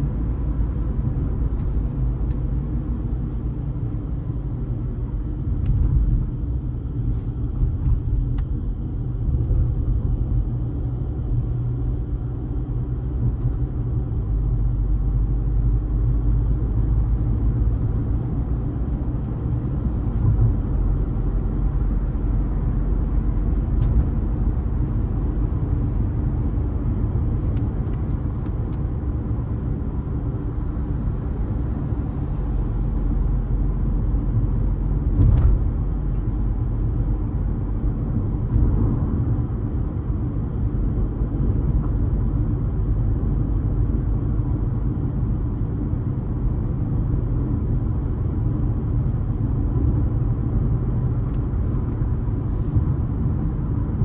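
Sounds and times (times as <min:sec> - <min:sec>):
car tyre and engine rumble: 0:00.0 - 0:54.0.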